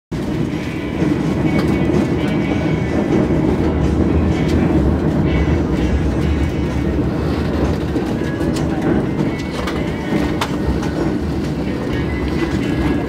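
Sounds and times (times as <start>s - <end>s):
train wheels rumbling on track: 0.1s - 13.0s.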